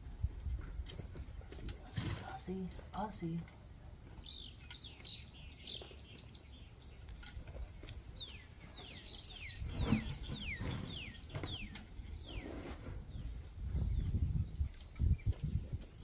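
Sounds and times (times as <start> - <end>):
birds chirping: 0.6 - 16.0.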